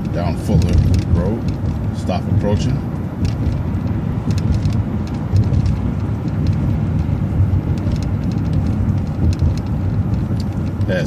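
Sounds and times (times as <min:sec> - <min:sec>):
bus engine and road rumble: 0:00.0 - 0:11.0
small clicks and rattles: 0:00.0 - 0:11.0.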